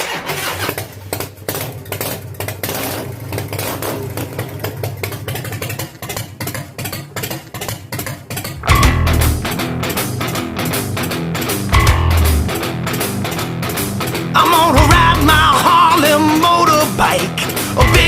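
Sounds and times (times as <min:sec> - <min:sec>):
motorcycle engine idling: 0:00.6 - 0:18.0.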